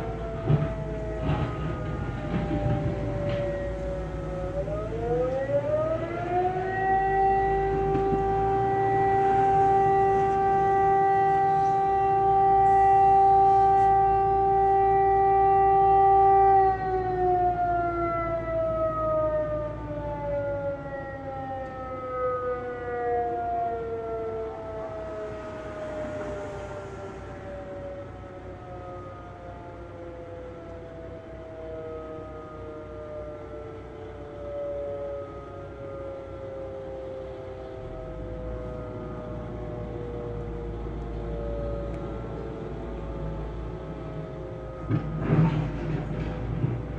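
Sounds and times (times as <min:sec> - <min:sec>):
siren wailing: 0:00.0 - 0:46.9.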